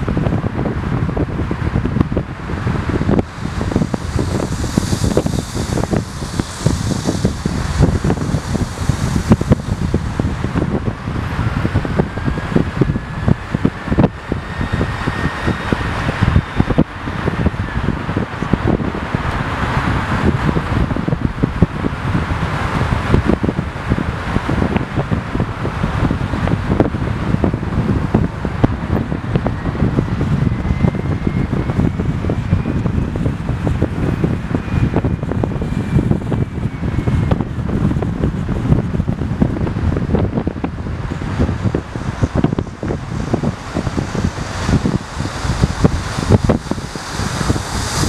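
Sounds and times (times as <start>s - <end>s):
car road and wind noise: 0.0s - 48.0s
faint rising whine: 0.0s - 48.0s
wind buffeting microphone: 0.0s - 48.0s.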